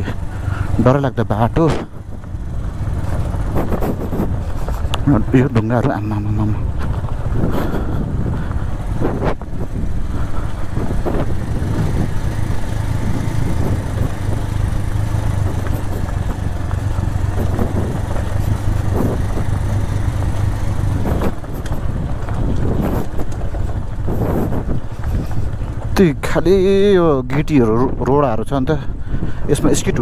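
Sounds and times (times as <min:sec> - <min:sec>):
motorcycle engine running: 0:00.0 - 0:30.0
tyres on rough gravel: 0:00.0 - 0:30.0
wind noise: 0:00.0 - 0:30.0.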